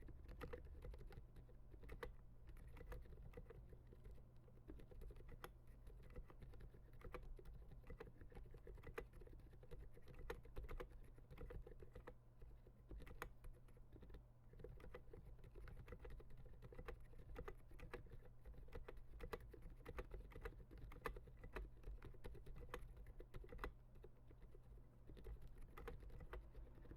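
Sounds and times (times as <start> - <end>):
quiet mechanical keyboard typing: 0.0 - 26.9.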